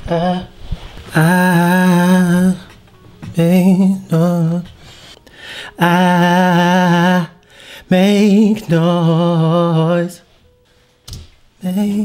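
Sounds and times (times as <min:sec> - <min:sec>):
man singing: 0:00.0 - 0:04.8, 0:05.6 - 0:10.3, 0:11.6 - 0:12.0.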